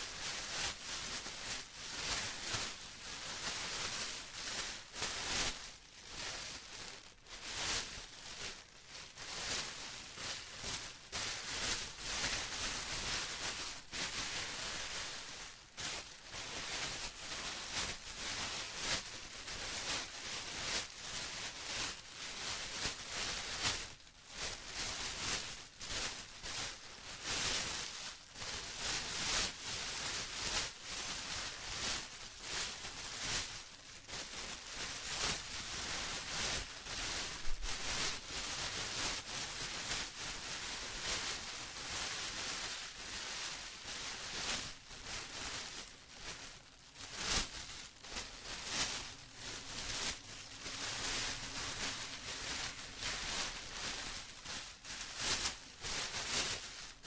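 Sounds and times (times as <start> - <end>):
plastic crinkling and rustling: 0.0 - 57.0.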